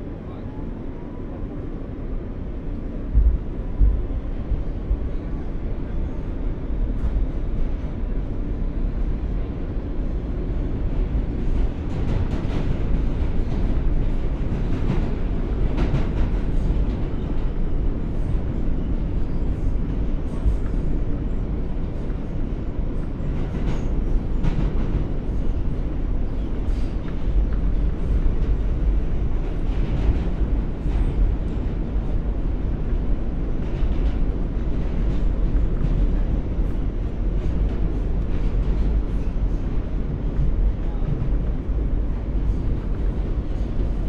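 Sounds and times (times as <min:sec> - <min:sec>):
subway car low rumble: 0:00.0 - 0:44.0.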